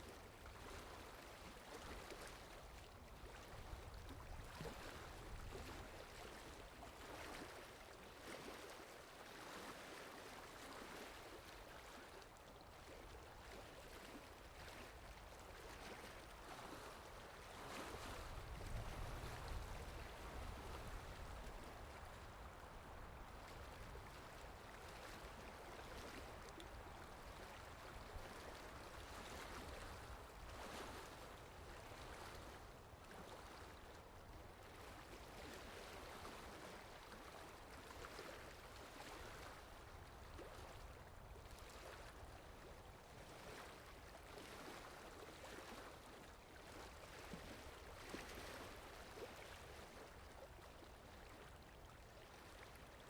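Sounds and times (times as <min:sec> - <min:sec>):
faint rushing water: 0:00.0 - 0:53.0.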